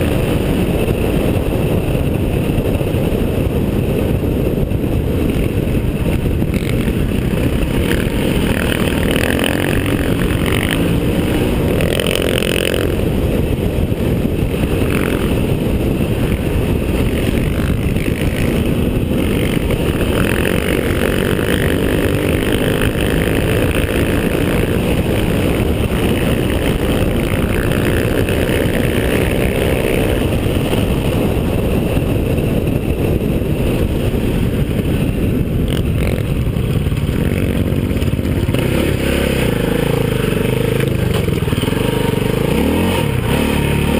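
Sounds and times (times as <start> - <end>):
motorcycle engine at high speed: 0.0 - 43.9
wind rush on microphone: 0.0 - 43.9.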